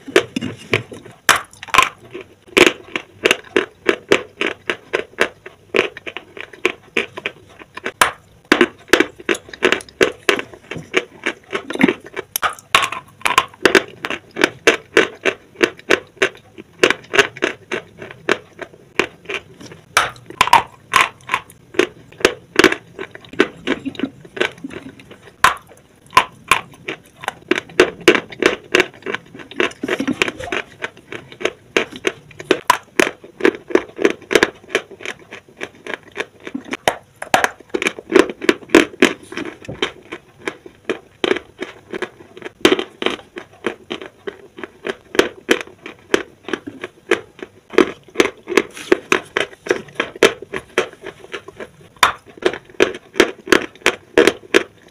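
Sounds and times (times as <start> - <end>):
chewing and crunching chalk: 0.0 - 54.9.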